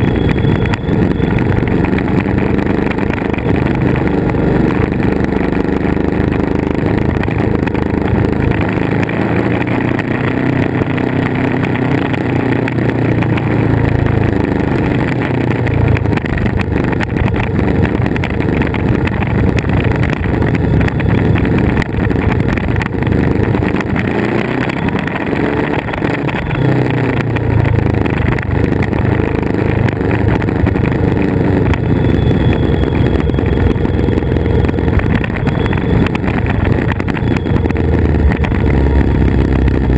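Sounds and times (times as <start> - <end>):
wind noise: 0.0 - 12.6, 14.6 - 39.9
motorcycle engine running: 0.0 - 39.9.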